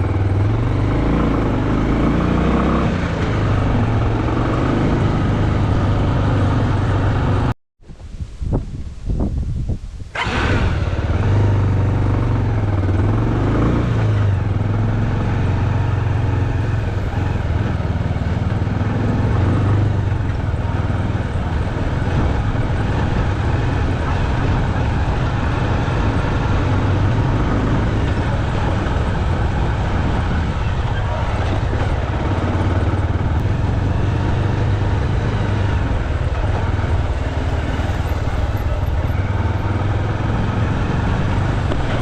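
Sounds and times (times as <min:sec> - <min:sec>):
motorcycle engine running: 0:00.0 - 0:07.5, 0:10.1 - 0:42.0.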